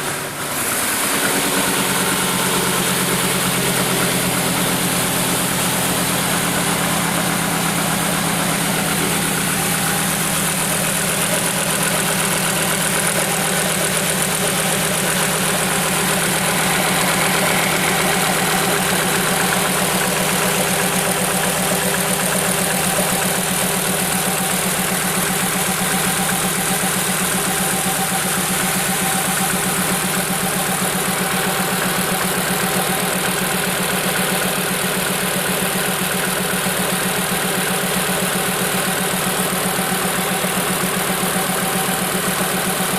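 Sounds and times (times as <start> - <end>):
car engine idling: 0.0 - 42.9
strange engine noise: 0.0 - 42.9.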